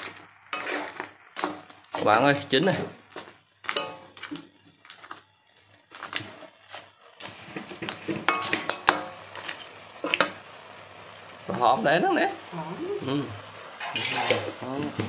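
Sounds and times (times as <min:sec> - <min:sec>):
spatula scraping a wok: 0:00.0 - 0:11.3, 0:13.5 - 0:14.6.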